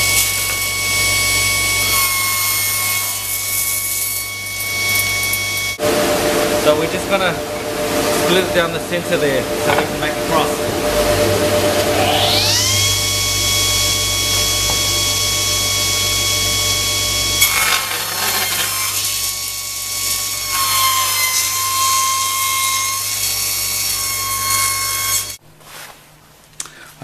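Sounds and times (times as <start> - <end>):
table saw cutting wood: 0.0 - 25.4.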